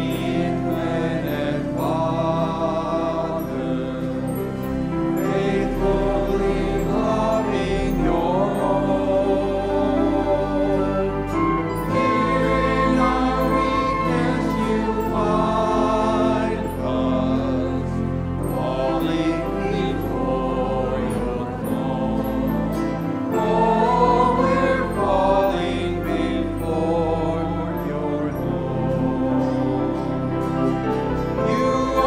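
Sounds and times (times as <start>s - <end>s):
flute: 0.0s - 32.0s
praise band singing: 0.0s - 32.0s.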